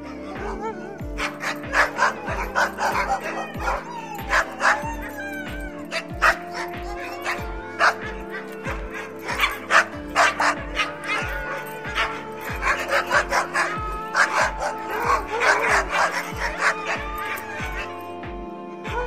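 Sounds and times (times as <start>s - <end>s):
background music with beat: 0.0s - 19.0s
dog barking and yipping: 0.4s - 18.2s.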